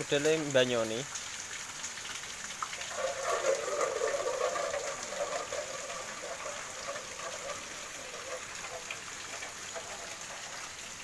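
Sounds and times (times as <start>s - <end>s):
gush of water splashing: 0.0s - 11.0s
steady rain falling: 0.0s - 11.0s.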